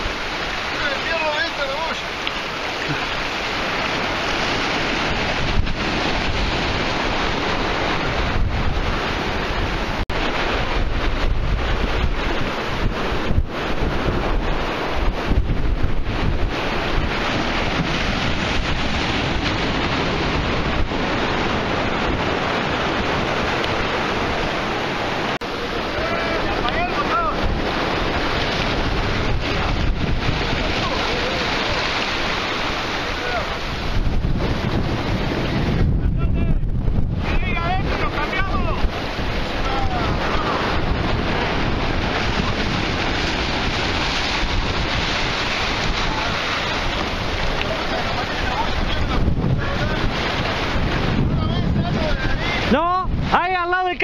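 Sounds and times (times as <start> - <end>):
sea waves and surf: 0.0 - 54.0
wind noise on microphone: 0.0 - 54.0.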